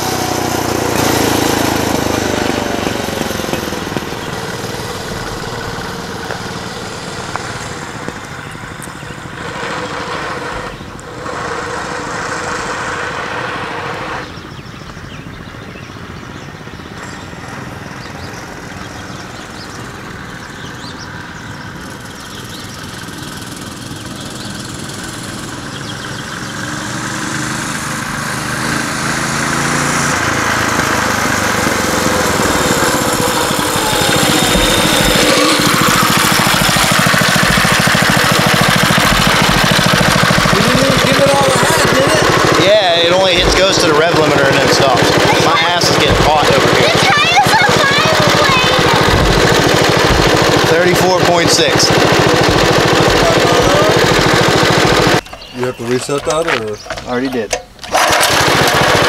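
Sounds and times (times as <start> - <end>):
mini bike engine at full throttle: 0.0 - 59.0.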